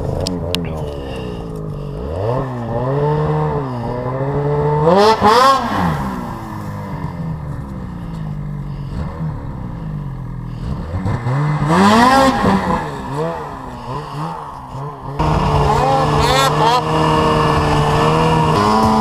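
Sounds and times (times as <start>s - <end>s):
nearer snowmobile engine running: 0.0s - 19.0s
snowmobile engine revving: 0.0s - 19.0s.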